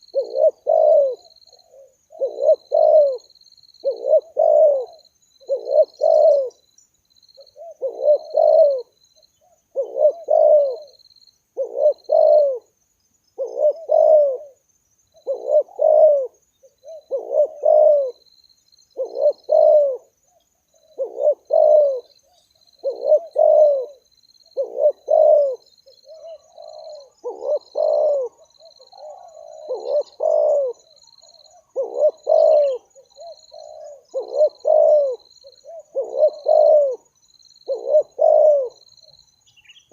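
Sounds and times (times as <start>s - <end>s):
doves cooing: 0.0s - 6.6s, 7.4s - 11.0s, 11.6s - 12.7s, 13.4s - 18.3s, 18.9s - 39.3s.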